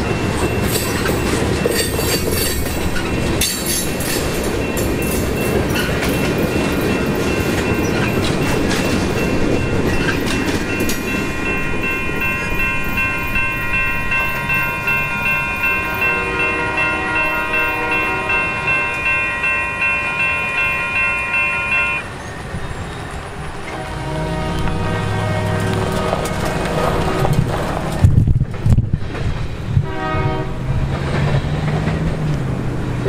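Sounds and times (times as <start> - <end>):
crossing signal bell ringing: 0.0 - 27.3
freight train wheels clattering: 0.0 - 33.0.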